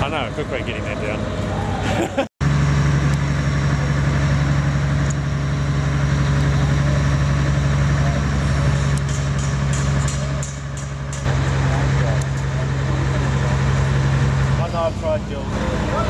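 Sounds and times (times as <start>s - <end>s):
engine idling: 2.4s - 16.0s.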